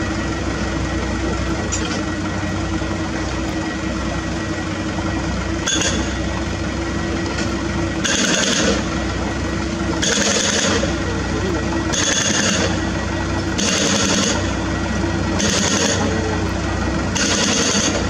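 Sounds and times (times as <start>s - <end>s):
diesel engines running: 0.0s - 18.0s.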